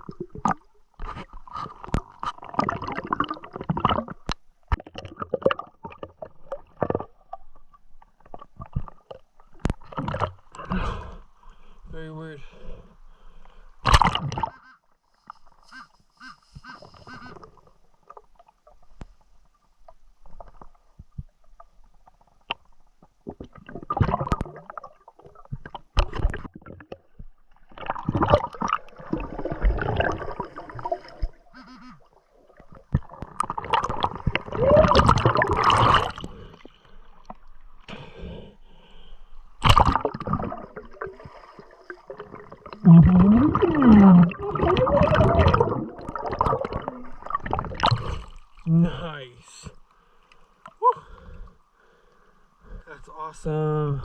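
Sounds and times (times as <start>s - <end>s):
water sloshing and gurgling: 0.0s - 15.7s, 16.6s - 53.4s.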